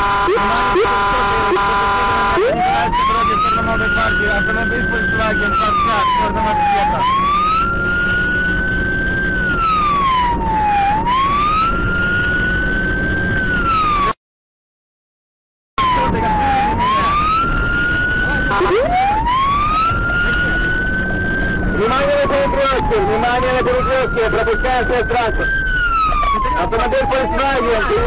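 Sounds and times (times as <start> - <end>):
car engine and road noise: 0.0 - 14.2, 15.8 - 28.0
police siren wailing: 0.0 - 14.2, 15.8 - 28.0.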